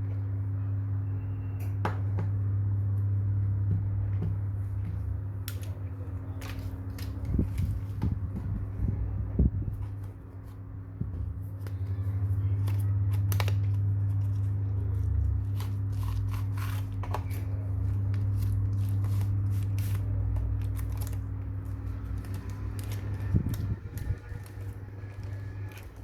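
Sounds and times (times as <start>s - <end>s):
low appliance hum: 0.0s - 26.0s.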